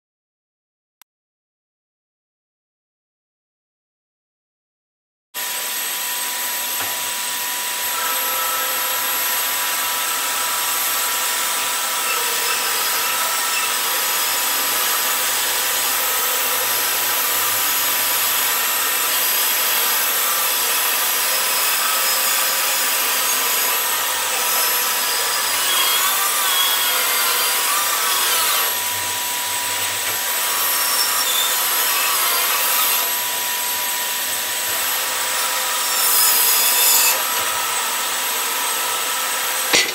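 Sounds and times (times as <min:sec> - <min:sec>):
bandsaw cutting wood: 0:05.4 - 0:39.9.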